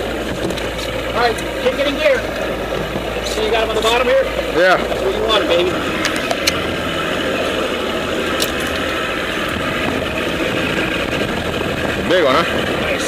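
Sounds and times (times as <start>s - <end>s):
outboard motor running: 0.0s - 13.0s
water wash: 0.0s - 13.0s.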